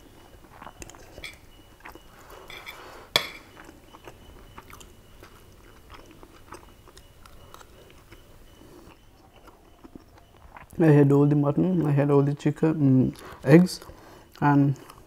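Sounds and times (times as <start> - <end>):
person chewing food: 0.0 - 12.0, 13.0 - 15.0.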